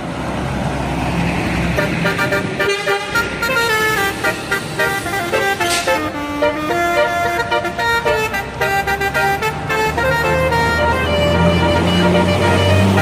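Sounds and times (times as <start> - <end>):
bus passing: 0.0 - 13.0
bus horn playing a melody: 1.8 - 13.0.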